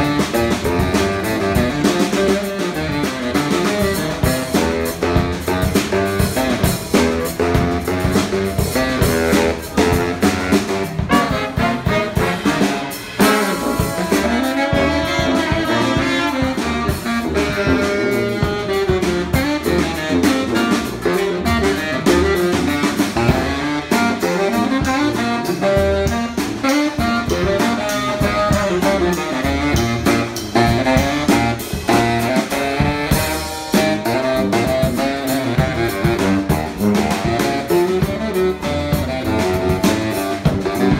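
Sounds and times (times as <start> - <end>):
drum kit keeping time: 0.0 - 40.9
live brass band playing: 0.0 - 40.9
tuba bass line: 0.0 - 40.9.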